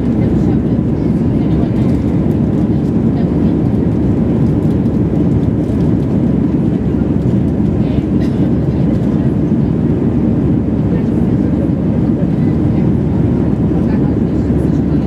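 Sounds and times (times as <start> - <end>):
jet engines roaring: 0.0 - 15.0
rushing airflow: 0.0 - 15.0.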